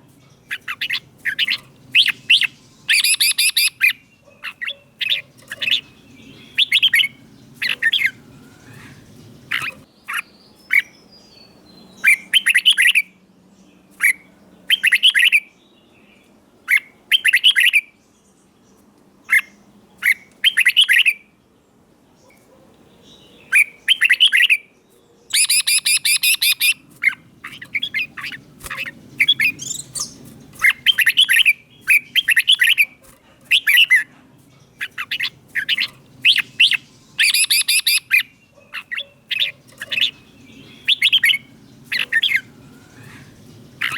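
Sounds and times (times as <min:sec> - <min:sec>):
bulbul singing whistled phrases: 0:00.0 - 0:13.2, 0:14.0 - 0:15.6, 0:16.7 - 0:18.0, 0:19.3 - 0:21.3, 0:23.4 - 0:24.7, 0:25.3 - 0:34.1, 0:34.8 - 0:43.9.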